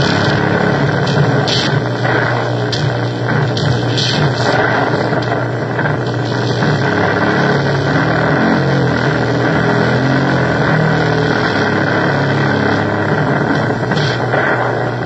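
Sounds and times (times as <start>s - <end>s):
electronic noise music: 0.0s - 15.0s
low droning tones: 0.0s - 15.0s.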